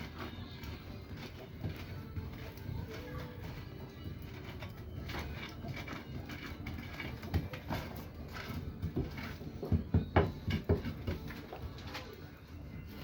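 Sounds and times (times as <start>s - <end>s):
knocking and clattering: 0.7s - 12.0s.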